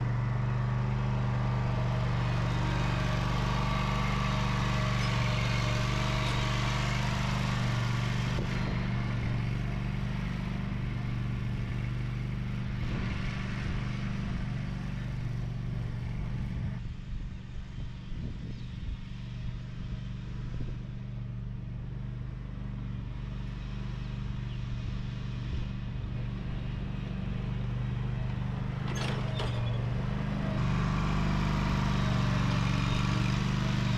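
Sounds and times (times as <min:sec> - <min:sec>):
lawn mower engine running: 0:00.0 - 0:18.1, 0:19.1 - 0:33.9.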